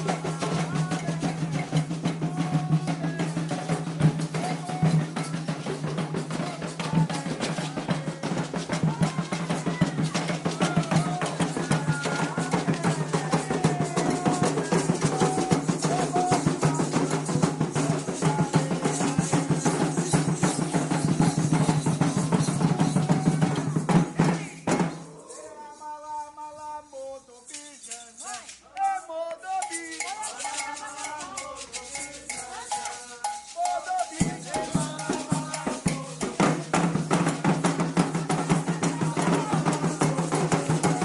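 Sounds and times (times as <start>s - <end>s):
hand drums drumming fast: 0.0s - 25.1s, 29.6s - 41.0s
voices singing: 0.0s - 41.0s.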